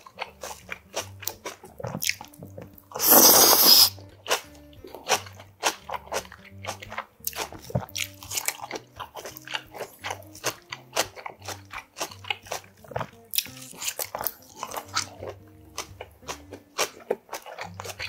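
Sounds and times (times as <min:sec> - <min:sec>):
background music: 0:00.0 - 0:18.0
crisp chewing crunches: 0:00.0 - 0:18.0.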